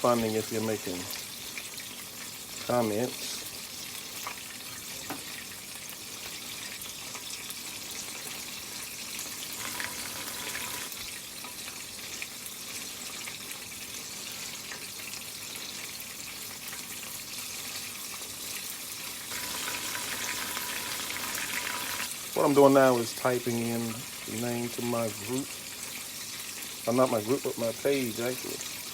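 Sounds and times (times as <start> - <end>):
chicken sizzling in hot oil: 0.0 - 28.9.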